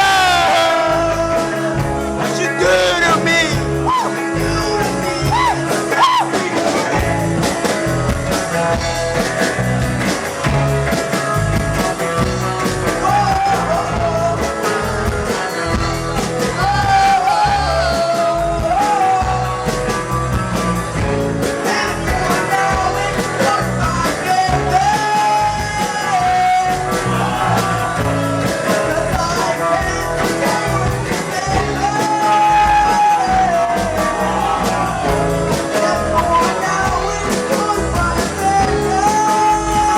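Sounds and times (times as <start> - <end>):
lead vocal singing: 0.0 - 9.5, 10.8 - 39.9
rock band playing: 0.0 - 39.9.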